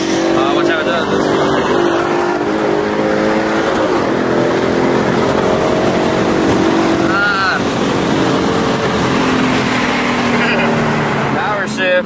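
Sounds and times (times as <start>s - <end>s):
car engine at highway speed: 0.0s - 12.0s.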